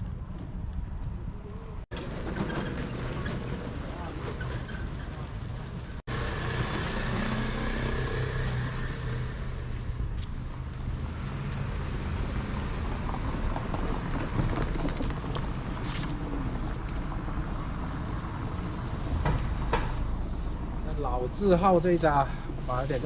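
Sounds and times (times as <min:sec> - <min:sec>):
street noise: 0:00.0 - 0:23.0.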